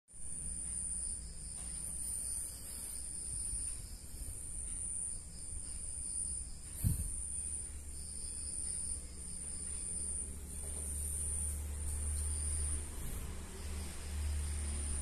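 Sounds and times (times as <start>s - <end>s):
crickets chirping: 0.1s - 15.0s
low steady rumble: 0.1s - 15.0s.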